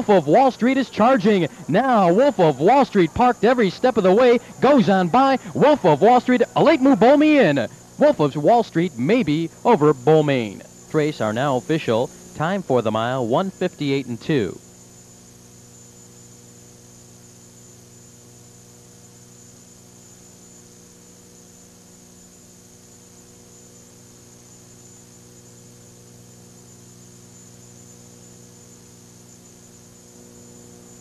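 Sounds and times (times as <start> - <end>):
electrical mains hum: 0.0 - 31.0
faint high whine: 0.0 - 31.0.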